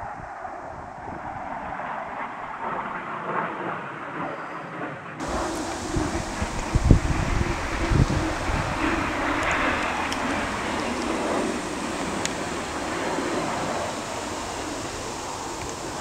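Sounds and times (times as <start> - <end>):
jet engine roaring overhead: 0.0 - 16.0.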